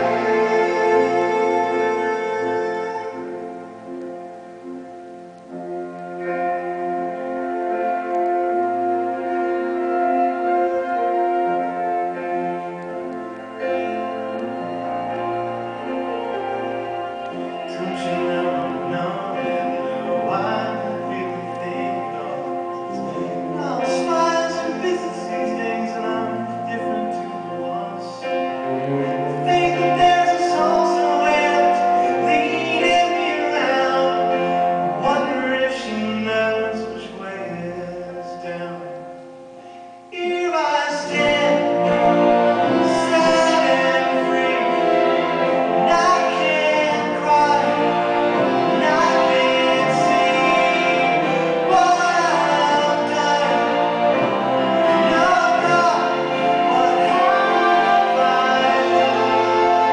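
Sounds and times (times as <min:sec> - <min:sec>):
person singing: 0:00.0 - 0:04.7, 0:05.5 - 0:39.3, 0:40.1 - 0:59.9
orchestra playing slow pop ballad: 0:00.0 - 0:59.9.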